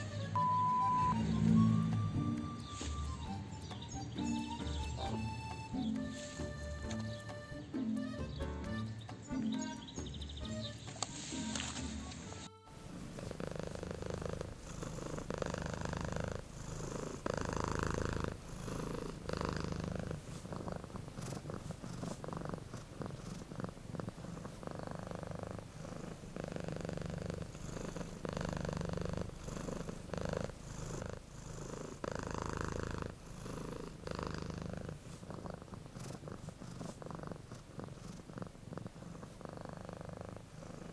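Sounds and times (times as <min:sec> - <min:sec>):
cat purring: 0:00.0 - 0:08.4, 0:09.0 - 0:40.9.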